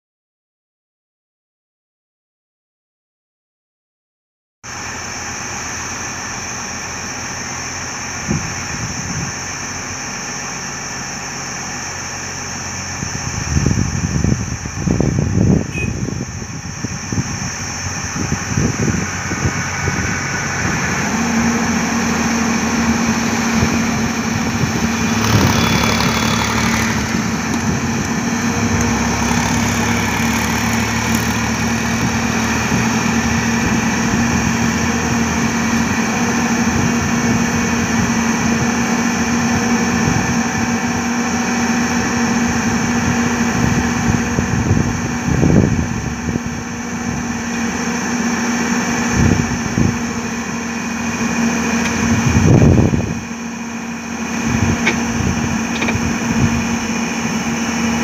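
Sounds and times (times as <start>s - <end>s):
diesel engine running: 4.7s - 58.0s.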